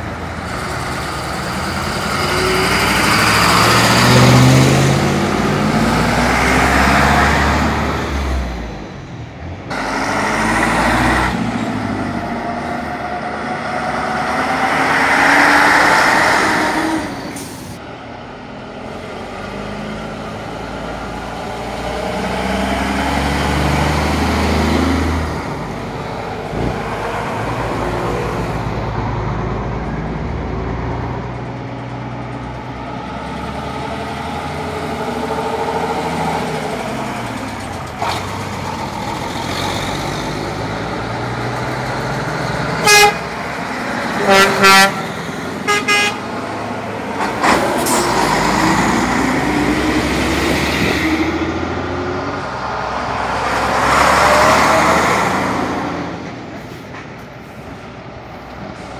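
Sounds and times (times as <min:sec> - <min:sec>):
diesel lorries driving past: 0:00.0 - 0:58.9.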